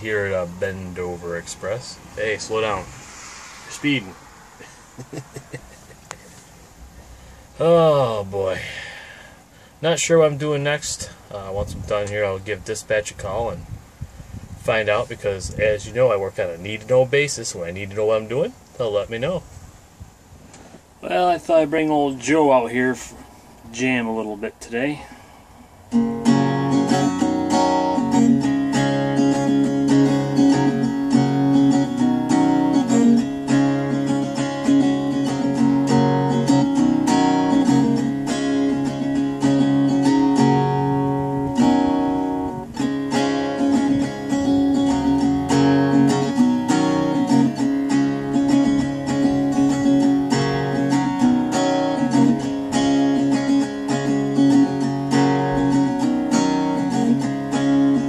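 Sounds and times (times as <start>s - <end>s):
acoustic guitar strummed and picked: 0.0s - 13.7s, 14.6s - 19.4s, 20.5s - 58.0s.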